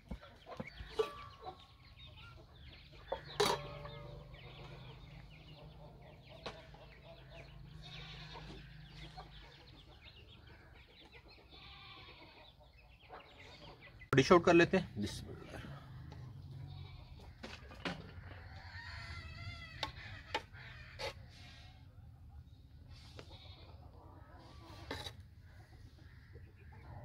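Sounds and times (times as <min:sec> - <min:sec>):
chickens clucking faintly: 0:00.0 - 0:27.0.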